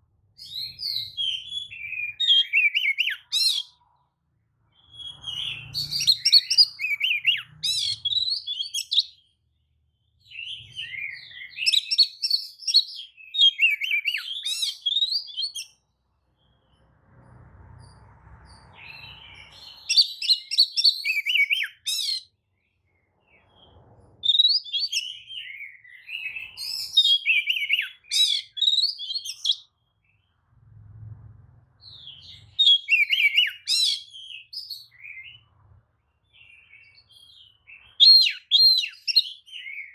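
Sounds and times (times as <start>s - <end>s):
bird song of whistles and chirps: 0.4s - 3.9s, 4.6s - 9.4s, 10.0s - 15.8s, 17.9s - 22.4s, 23.0s - 30.2s, 31.8s - 35.6s, 36.2s - 39.9s.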